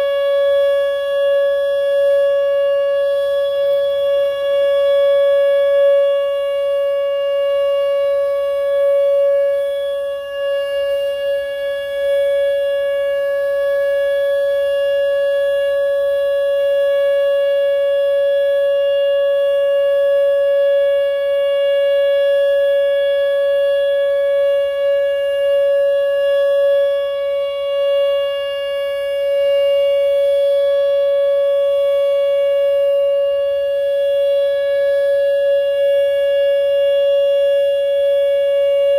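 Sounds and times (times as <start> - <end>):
electronic warning siren: 0.0 - 38.9.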